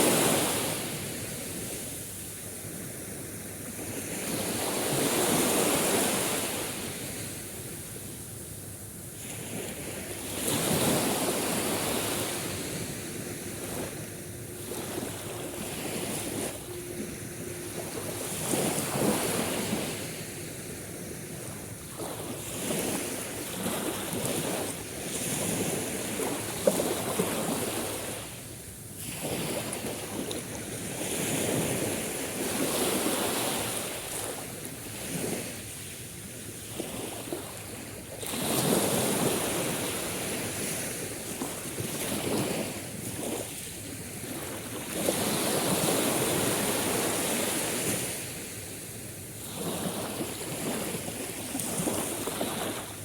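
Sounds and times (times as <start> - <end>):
sea waves breaking ashore: 0.0 - 53.0.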